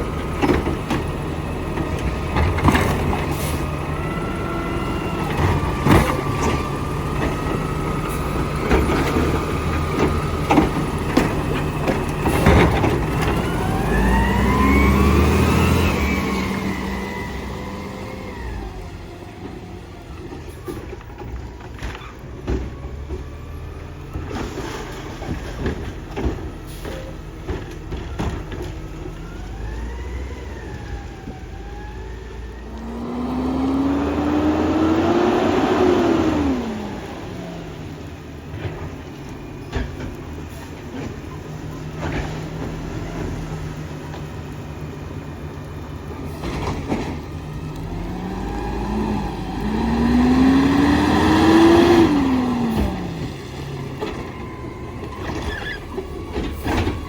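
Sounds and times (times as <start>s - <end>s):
garbage truck engine revving: 0.0s - 57.0s.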